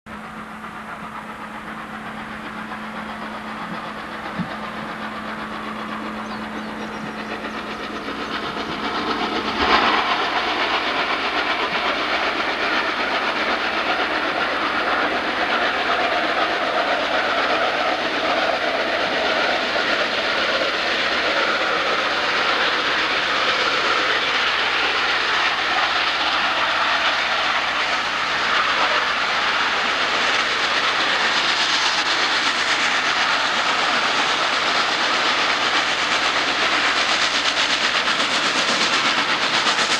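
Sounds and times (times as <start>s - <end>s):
steam locomotive exhaust: 0.1s - 39.9s.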